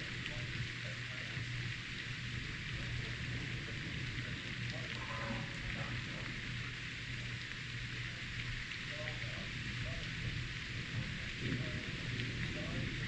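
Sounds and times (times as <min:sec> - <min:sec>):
low steady hum: 0:00.0 - 0:13.0
steady rain hiss: 0:00.0 - 0:13.0.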